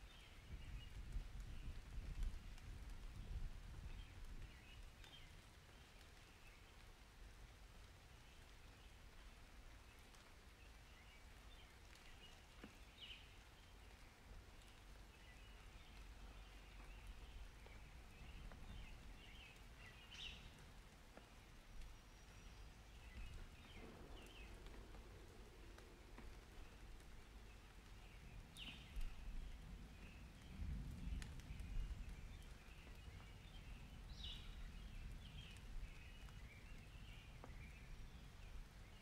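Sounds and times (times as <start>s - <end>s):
soft rain hiss: 0.0s - 39.0s.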